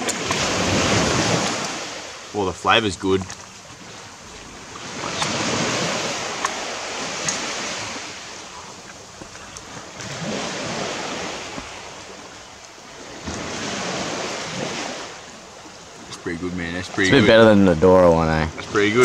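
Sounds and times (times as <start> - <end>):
small waves washing onto sand: 0.0 - 19.0.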